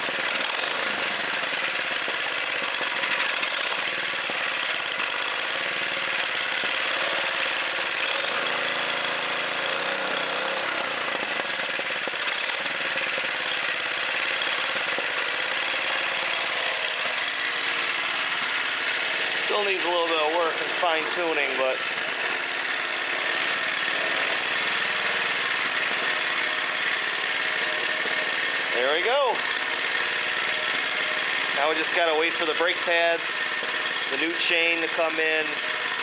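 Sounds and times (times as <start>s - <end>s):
mini bike engine running: 0.0s - 36.0s.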